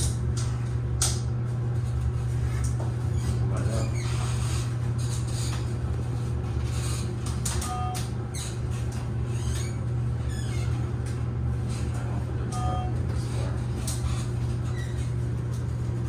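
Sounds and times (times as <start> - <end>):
elevator humming: 0.0 - 16.0.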